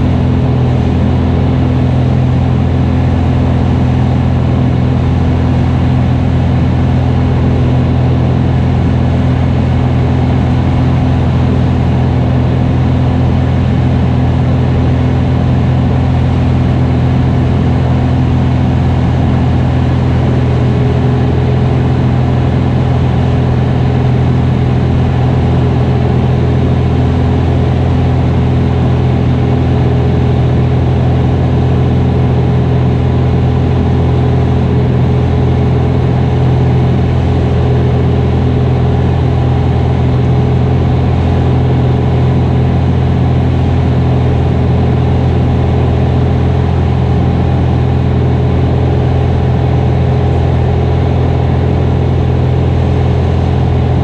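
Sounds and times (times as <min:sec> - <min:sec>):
airplane engine droning in cockpit: 0:00.0 - 0:54.0.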